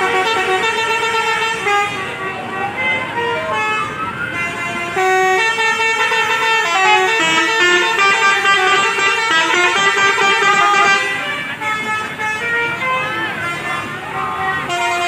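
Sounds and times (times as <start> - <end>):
musical bus horns playing tunes: 0.0 - 15.0.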